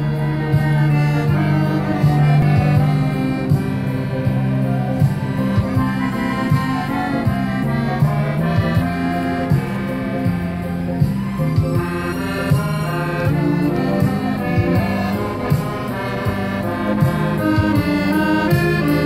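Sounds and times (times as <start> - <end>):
accordion playing a tune: 0.0 - 19.0.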